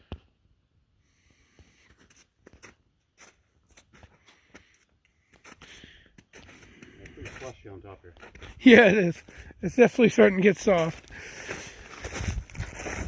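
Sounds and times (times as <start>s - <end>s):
footsteps crunching on snow: 1.7s - 13.0s.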